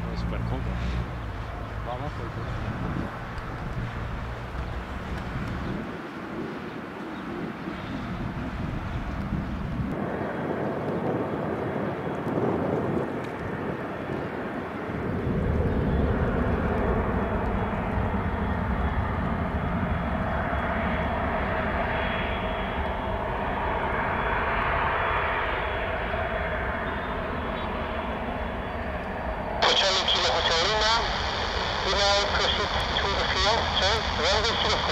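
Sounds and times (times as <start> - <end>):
jet engines rumbling and whining: 0.0 - 34.9.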